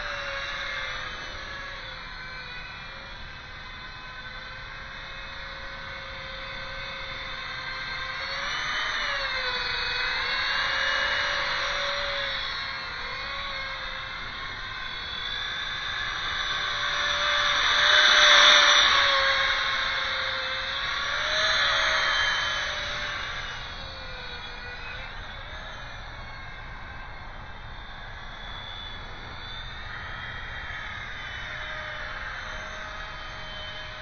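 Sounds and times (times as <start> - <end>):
electric ducted fan whining: 0.0 - 34.0.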